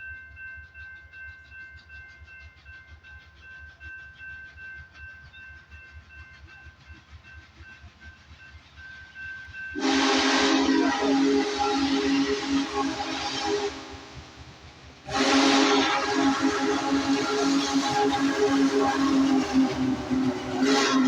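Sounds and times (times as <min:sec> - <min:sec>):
steam locomotive rumbling past: 0:00.0 - 0:21.0.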